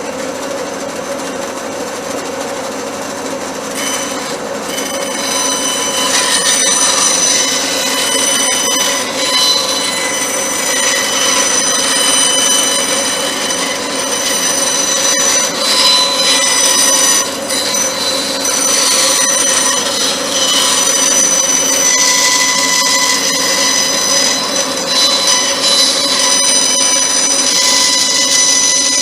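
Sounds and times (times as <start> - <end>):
power tool whining: 3.6 - 29.0.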